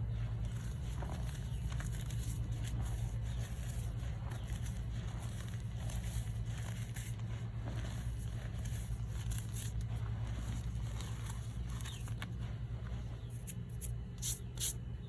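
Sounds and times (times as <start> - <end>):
steady low hum: 0.0 - 15.0
chalk being crushed: 0.1 - 14.8.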